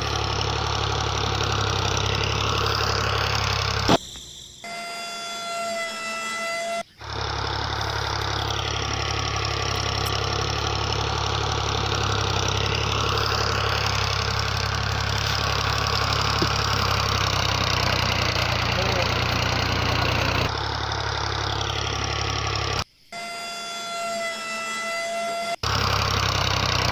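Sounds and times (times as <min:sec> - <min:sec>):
motor droning: 0:00.0 - 0:26.9.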